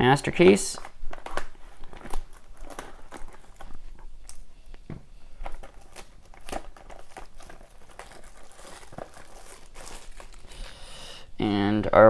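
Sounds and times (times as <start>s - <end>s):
packaging crinkling and rustling: 0.0s - 11.3s.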